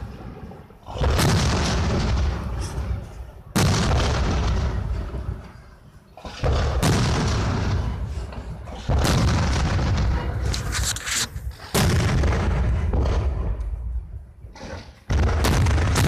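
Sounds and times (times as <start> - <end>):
firework shells booming: 0.0 - 5.6, 6.2 - 16.0.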